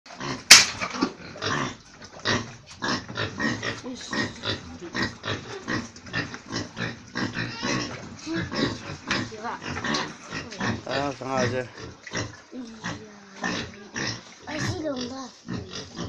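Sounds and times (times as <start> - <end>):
pig grunting and squealing: 0.1 - 16.0.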